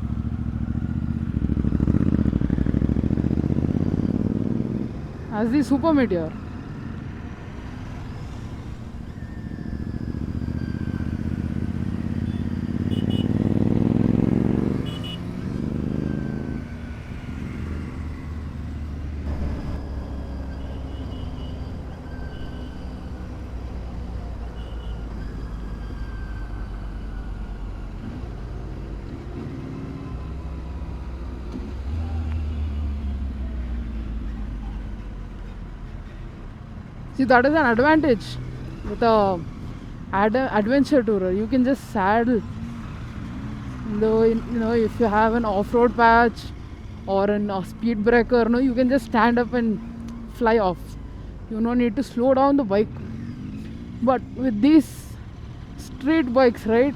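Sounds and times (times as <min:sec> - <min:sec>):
motorcycle engine revving: 0:00.0 - 0:34.3, 0:41.1 - 0:51.2, 0:52.5 - 0:56.9
road noise: 0:00.0 - 0:56.9.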